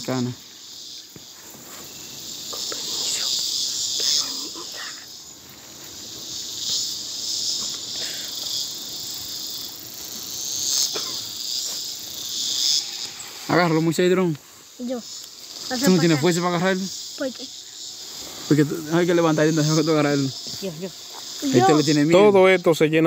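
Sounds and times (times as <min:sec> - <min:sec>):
insects buzzing shrilly: 0:00.0 - 0:23.0.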